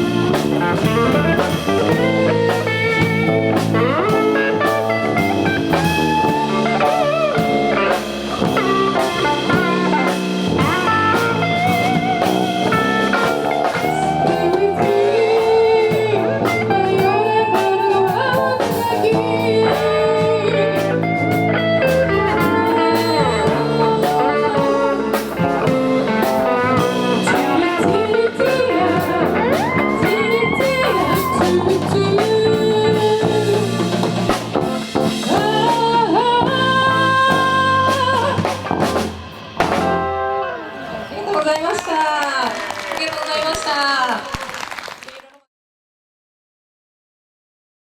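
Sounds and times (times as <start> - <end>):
electric guitar bending notes: 0.0 - 41.6
drums: 0.0 - 45.1.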